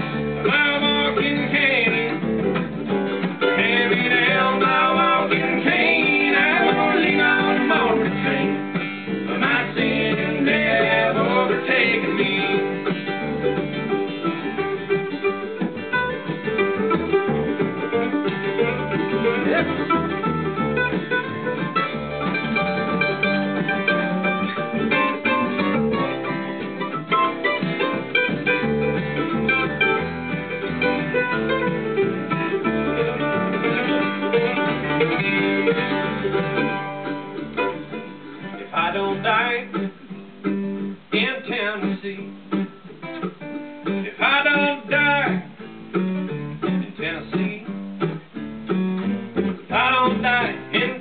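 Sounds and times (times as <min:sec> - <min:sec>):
acoustic guitar: 0:00.0 - 0:51.0
mandolin: 0:00.0 - 0:51.0
upright bass: 0:00.0 - 0:51.0.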